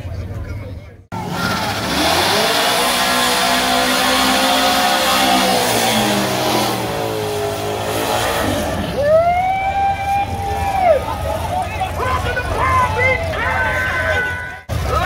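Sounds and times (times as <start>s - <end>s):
drag car engine revving: 1.1s - 15.0s.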